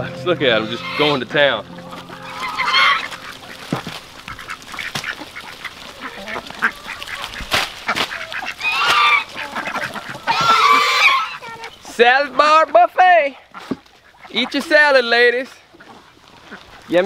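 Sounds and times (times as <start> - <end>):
ducks quacking: 0.0 - 17.0
birds pecking at greens: 1.8 - 12.7, 13.4 - 17.0.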